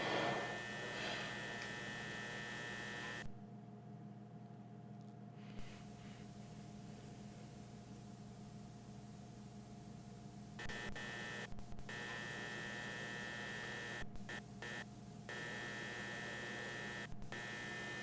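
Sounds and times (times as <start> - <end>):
harsh buzzing static: 0.0 - 3.4, 5.6 - 18.0
low electrical hum: 0.0 - 18.0.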